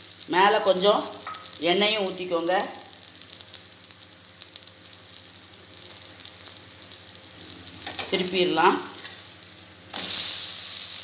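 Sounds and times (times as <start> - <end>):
oil sizzling in pan: 0.0 - 11.0.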